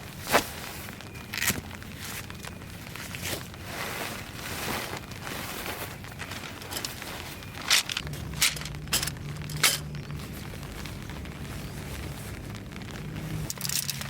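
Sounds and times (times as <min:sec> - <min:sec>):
low steady hum: 0:00.0 - 0:14.0
rustling and handling noises: 0:00.0 - 0:14.0.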